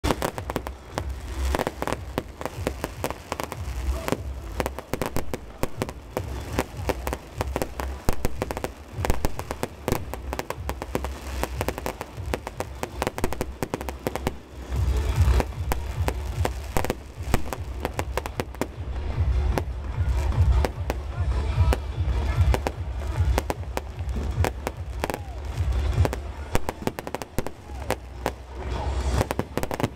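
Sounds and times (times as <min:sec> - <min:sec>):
deep fireworks booms: 0:00.0 - 0:29.9
fireworks bangs and crackles: 0:00.0 - 0:29.9.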